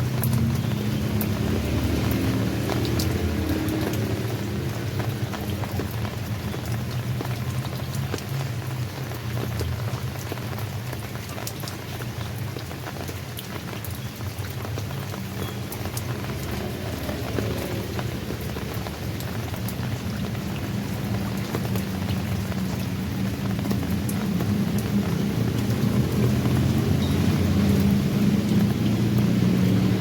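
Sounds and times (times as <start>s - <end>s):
rain drops on hard surface: 0.0s - 30.0s.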